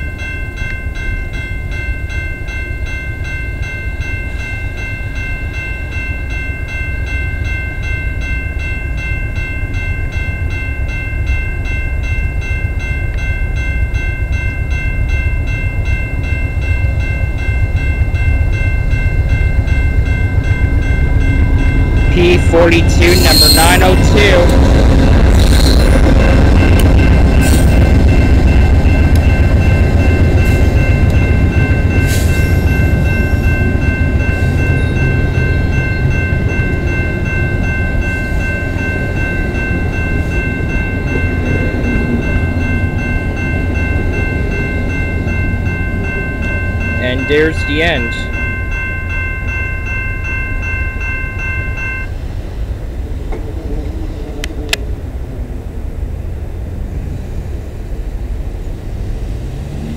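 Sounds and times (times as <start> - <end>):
steady high ringing: 0.0 - 53.2
train wheels rumbling on rails: 0.0 - 59.9.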